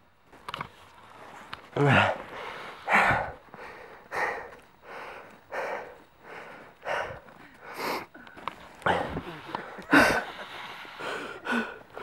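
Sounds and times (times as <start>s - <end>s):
heavy puffing breaths: 1.1s - 12.0s.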